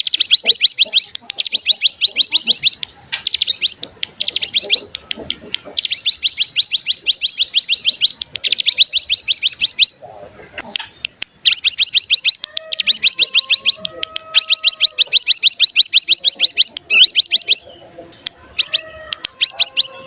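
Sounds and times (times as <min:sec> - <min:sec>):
bird trilling chirps: 0:00.0 - 0:20.0.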